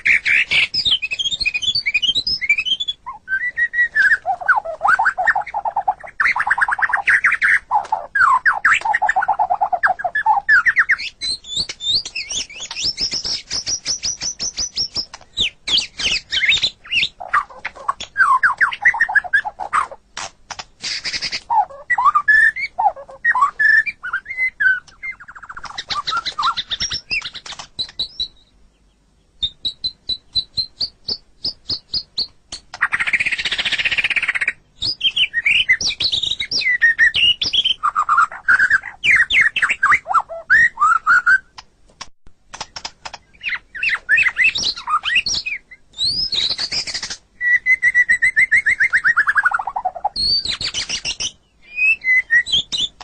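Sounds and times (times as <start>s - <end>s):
songbird singing whistles and trills: 0.0s - 20.0s, 20.8s - 41.6s, 43.2s - 53.0s.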